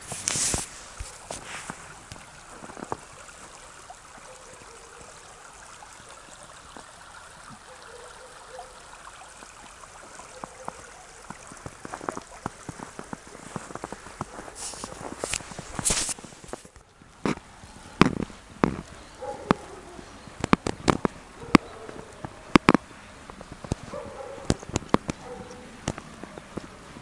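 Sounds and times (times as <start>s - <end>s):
brook trickling and gurgling: 0.0s - 27.0s.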